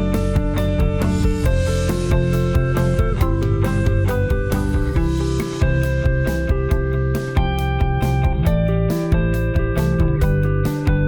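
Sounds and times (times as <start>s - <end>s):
guitar band music: 0.0s - 11.0s
steady drum beat: 0.0s - 11.0s.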